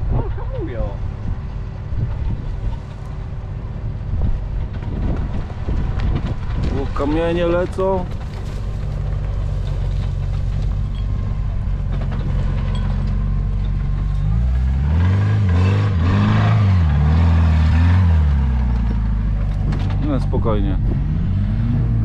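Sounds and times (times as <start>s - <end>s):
truck engine running and revving: 0.0s - 22.0s.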